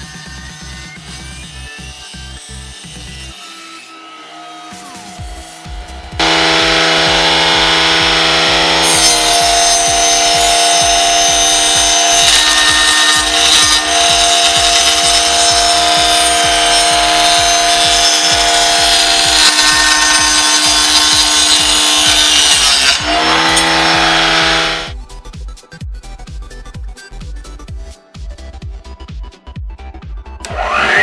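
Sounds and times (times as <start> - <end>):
saw blade cutting wood: 0.0 - 25.0, 30.4 - 31.0
saw motor whine: 0.0 - 25.0, 30.4 - 31.0.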